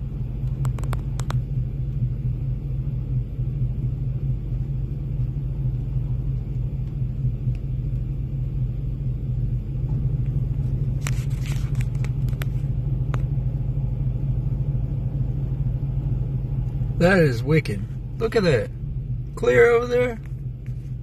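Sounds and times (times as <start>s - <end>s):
car engine rumble: 0.0s - 21.0s
road noise: 0.0s - 21.0s.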